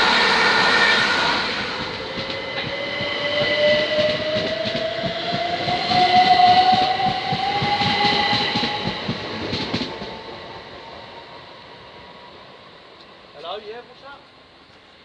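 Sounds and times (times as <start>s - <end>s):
train motor whine rising: 0.0s - 13.1s.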